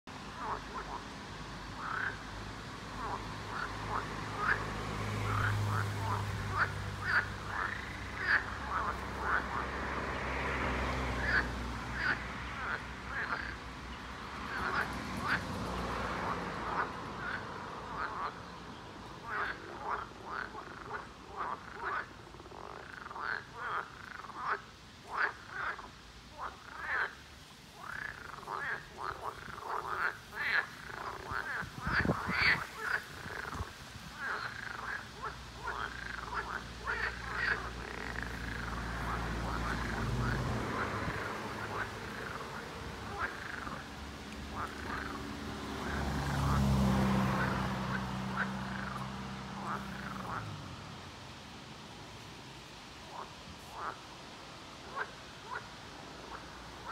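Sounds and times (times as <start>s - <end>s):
chorus of frogs croaking: 0.1s - 56.9s.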